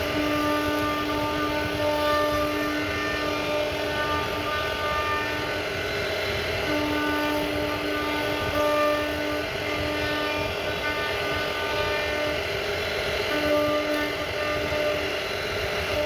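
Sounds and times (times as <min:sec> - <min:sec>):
router cutting wood: 0:00.0 - 0:16.0
router spindle whine: 0:00.0 - 0:16.0.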